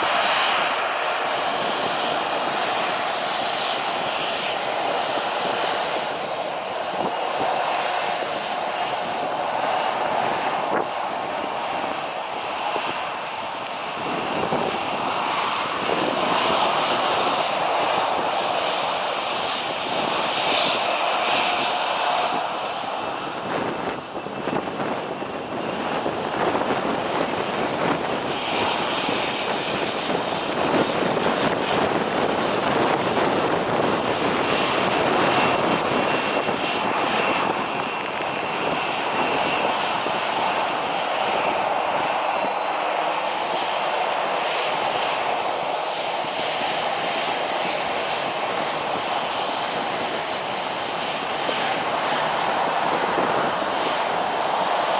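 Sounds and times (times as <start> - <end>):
airliner engines running: 0.0 - 54.9.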